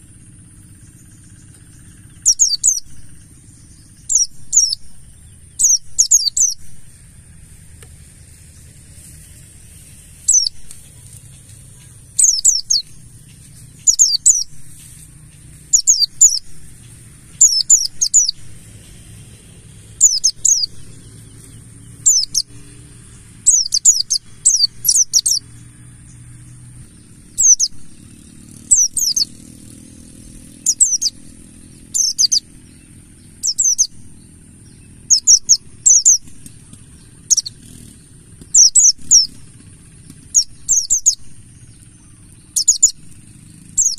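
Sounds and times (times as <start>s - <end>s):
bird singing high phrases: 0.0s - 43.9s.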